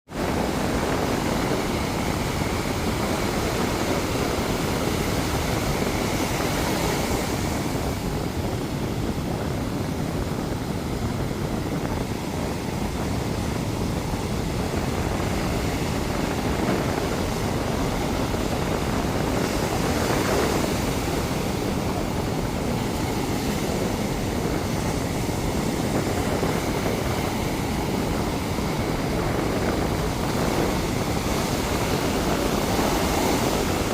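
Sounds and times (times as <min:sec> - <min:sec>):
ocean waves roaring: 0:00.1 - 0:33.9
wave breaking: 0:00.2 - 0:33.9.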